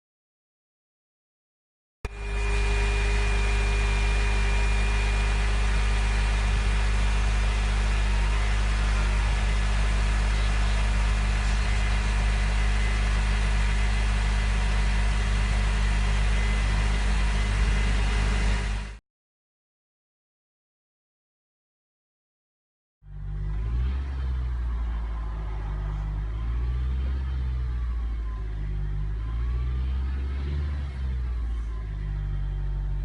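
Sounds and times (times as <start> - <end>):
car engine running: 2.1 - 19.0, 23.0 - 33.0
power-steering pump whine: 2.1 - 19.0, 23.0 - 33.0.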